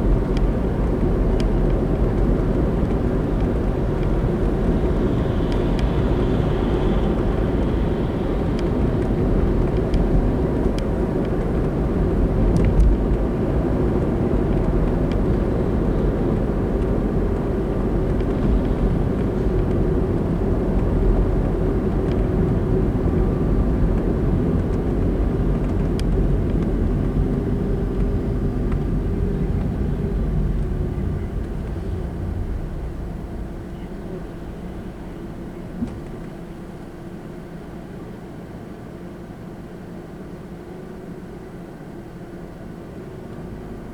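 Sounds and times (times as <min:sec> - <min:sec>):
car tyre and engine rumble: 0:00.0 - 0:43.9.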